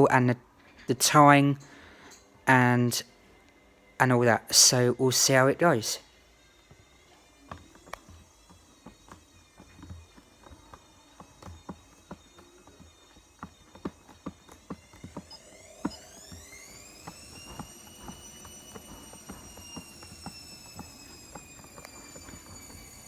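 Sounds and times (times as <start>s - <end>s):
rising whine: 1.1s - 23.0s.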